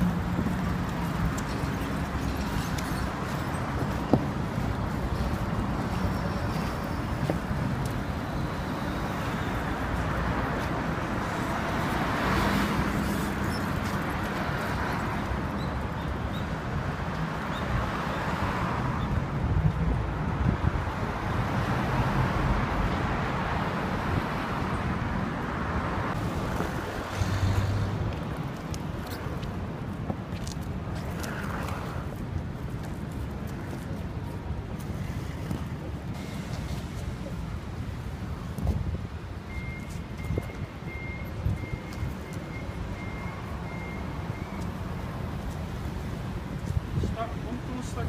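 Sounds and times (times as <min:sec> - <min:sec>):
cars passing: 0:00.0 - 0:48.0.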